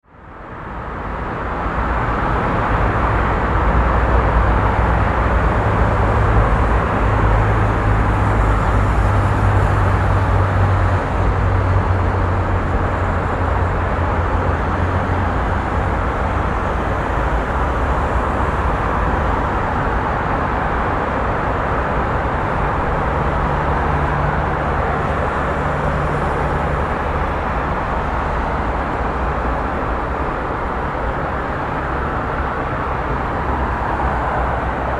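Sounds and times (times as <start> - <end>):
street traffic rumble: 0.0 - 34.9.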